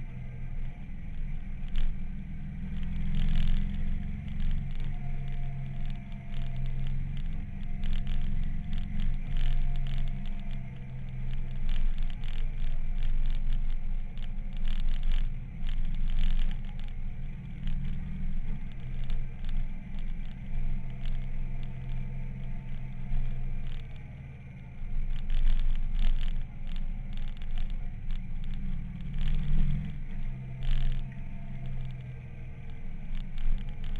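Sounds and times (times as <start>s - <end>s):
motorcycle engine running: 0.0s - 33.9s
wind crackles on camera: 0.0s - 33.9s.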